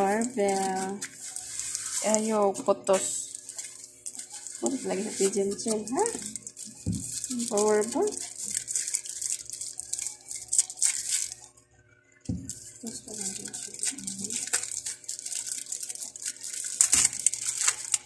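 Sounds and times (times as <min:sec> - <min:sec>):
packing paper rustling: 0:00.0 - 0:11.5, 0:12.3 - 0:18.0.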